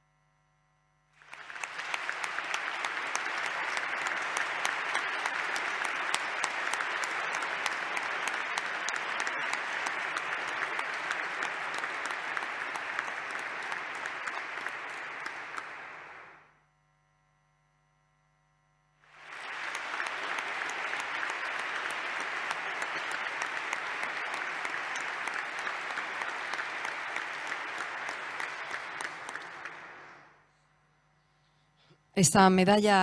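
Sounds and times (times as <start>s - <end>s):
audience applauding: 1.2s - 16.5s, 19.1s - 30.4s.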